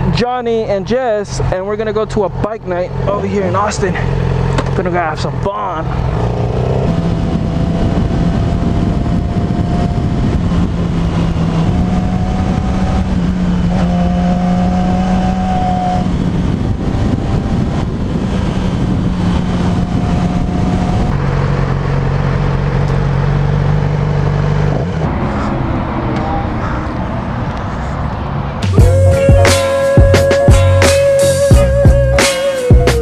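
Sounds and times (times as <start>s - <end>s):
wind and road noise: 0.0s - 32.1s
motorcycle engine cruising: 0.0s - 33.0s.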